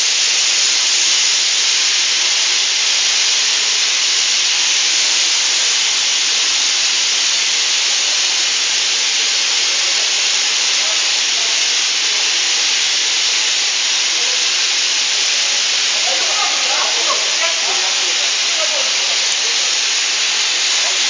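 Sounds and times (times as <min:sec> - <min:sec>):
pressurized gas hissing: 0:00.0 - 0:21.0.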